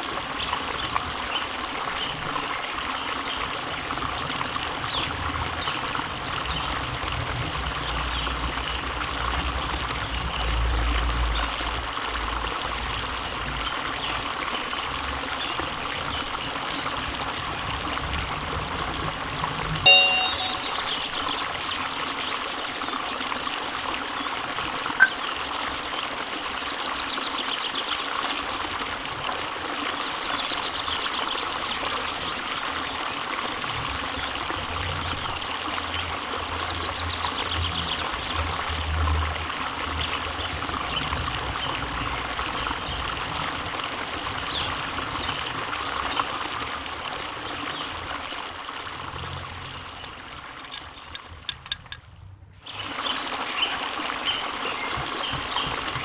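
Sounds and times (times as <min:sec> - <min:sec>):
trickling running water: 0:00.0 - 0:56.0.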